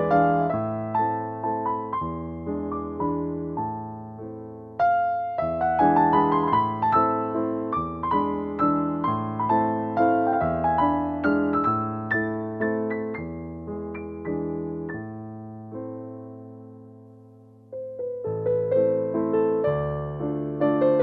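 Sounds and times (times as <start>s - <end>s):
gentle piano melody: 0.0s - 21.0s.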